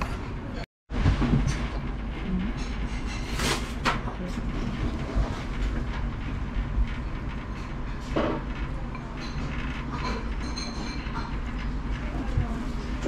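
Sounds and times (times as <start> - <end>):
restaurant low rumble: 0.0 - 13.0.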